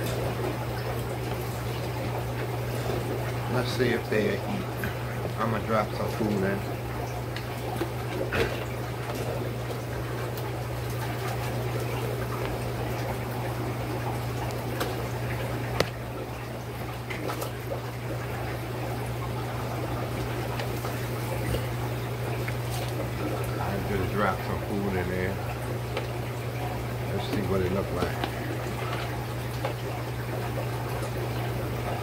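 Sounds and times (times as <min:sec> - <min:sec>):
aquarium water trickling: 0:00.0 - 0:32.0.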